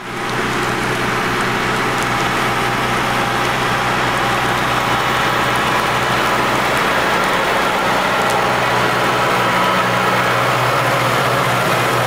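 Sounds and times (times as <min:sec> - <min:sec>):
tractor engine hum: 0:00.0 - 0:12.0.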